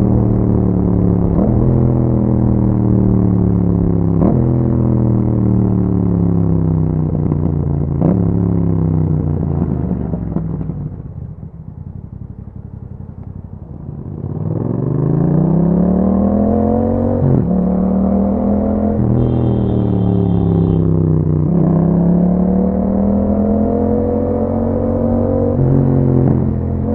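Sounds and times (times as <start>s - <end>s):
motorcycle engine revving: 0.0s - 10.6s, 14.0s - 26.9s.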